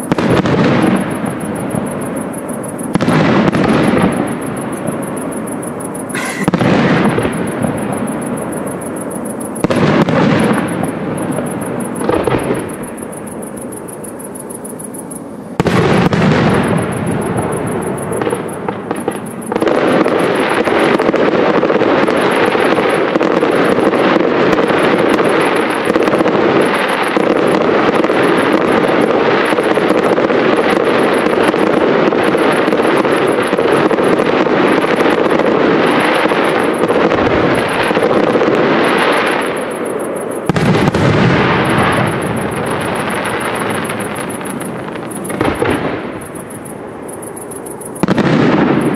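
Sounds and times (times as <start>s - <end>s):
firework shells booming: 0.0s - 14.0s, 15.6s - 48.9s
fireworks crackling and popping: 0.0s - 48.9s.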